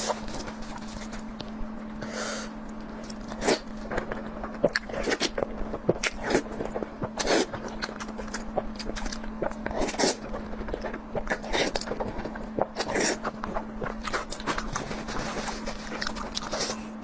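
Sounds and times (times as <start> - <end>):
faint steady hum: 0.0 - 17.0
crunchy chewing and smacking: 2.6 - 17.0.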